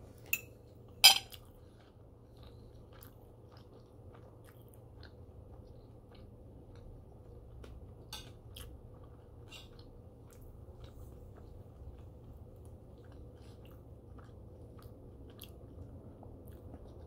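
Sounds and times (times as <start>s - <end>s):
man chewing food: 0.0s - 17.0s.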